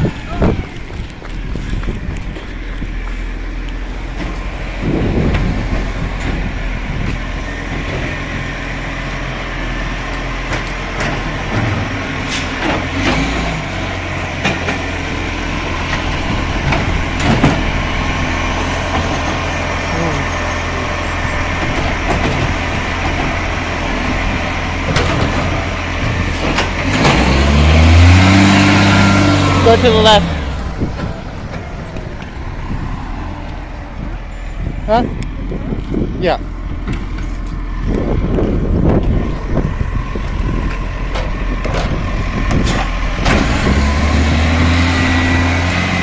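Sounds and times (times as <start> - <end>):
vehicle engine hum with road noise: 0.0 - 46.0.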